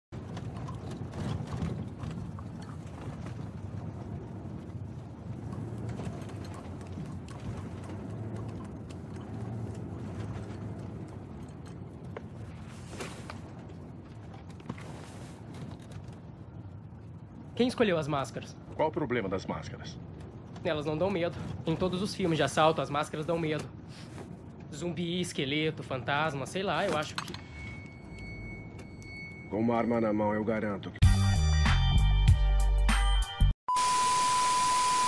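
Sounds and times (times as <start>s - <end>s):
low rumble inside moving van: 0.1s - 30.1s.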